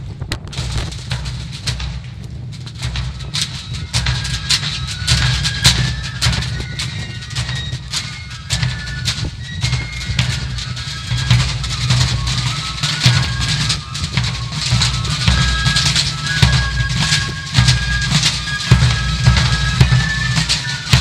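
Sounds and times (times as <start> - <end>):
snare and bass drums: 0.0 - 21.0
wind rumbling on microphone: 0.0 - 21.0
fife melody: 2.8 - 21.0.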